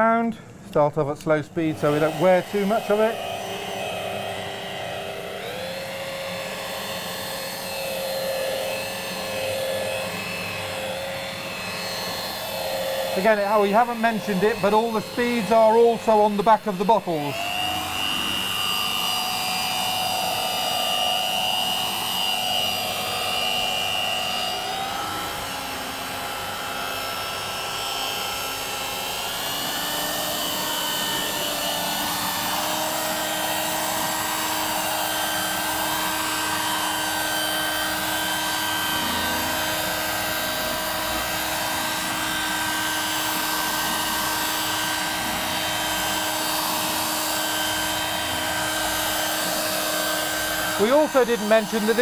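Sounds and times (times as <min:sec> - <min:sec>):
power polisher motor whine: 0:01.6 - 0:52.0.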